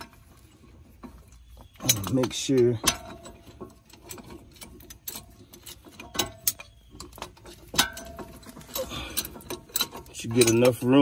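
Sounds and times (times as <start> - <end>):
metal clicks and clinks: 1.0 - 11.0.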